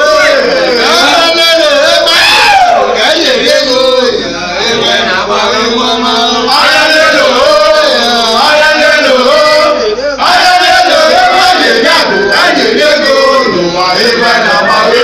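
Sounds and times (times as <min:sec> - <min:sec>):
group singing and chanting: 0:00.0 - 0:15.0.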